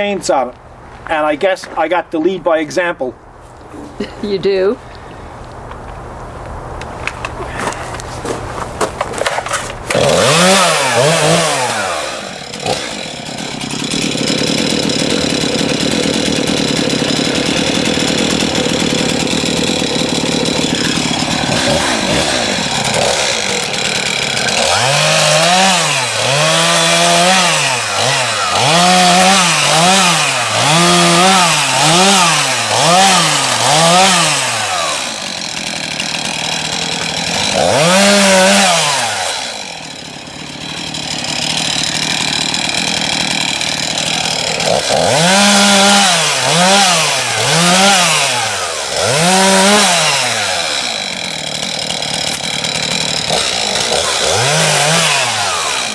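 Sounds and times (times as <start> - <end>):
chainsaw cutting wood: 6.8 - 55.9.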